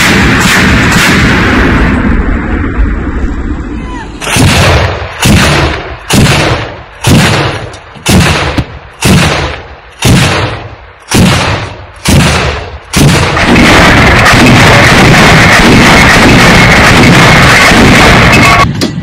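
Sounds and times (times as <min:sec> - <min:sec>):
heavy gun shots booming: 0:00.0 - 0:03.1, 0:04.2 - 0:19.0.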